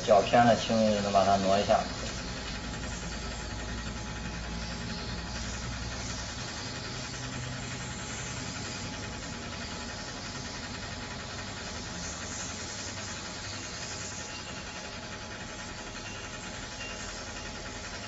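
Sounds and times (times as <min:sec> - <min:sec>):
hot-air gun airflow hiss: 0:00.0 - 0:18.0.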